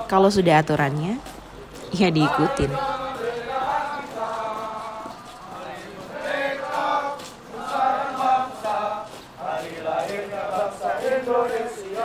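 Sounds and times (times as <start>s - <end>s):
group singing marching chant: 0.0s - 0.4s, 1.2s - 12.0s.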